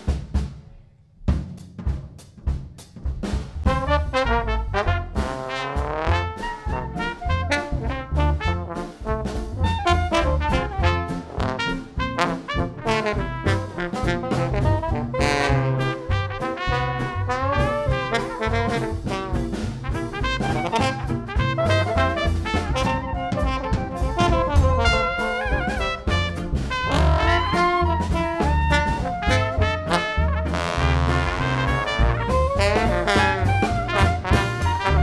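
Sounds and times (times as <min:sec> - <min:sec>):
steady drum beat: 0:00.0 - 0:35.0
jazz band playing: 0:02.8 - 0:35.0.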